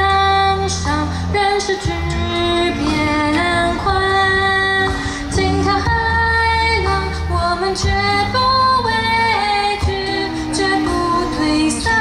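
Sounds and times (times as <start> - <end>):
a cappella group singing: 0.0 - 12.0.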